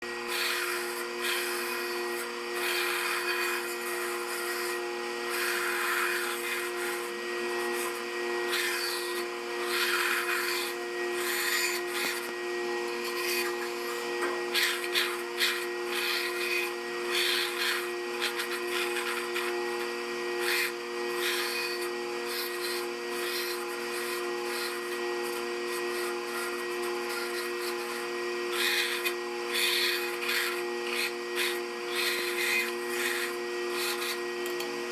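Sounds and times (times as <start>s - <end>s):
power saw humming: 0.0s - 34.9s
saw blade rasping through wood: 0.0s - 34.9s.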